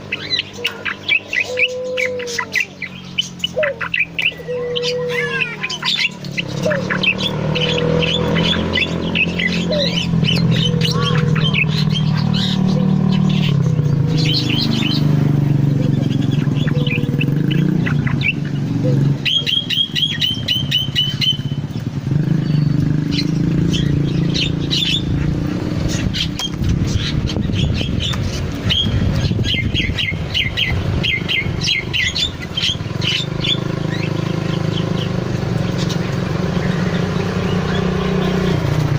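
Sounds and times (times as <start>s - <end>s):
low engine-like rumble: 0.0s - 38.9s
songbird singing: 0.0s - 38.9s.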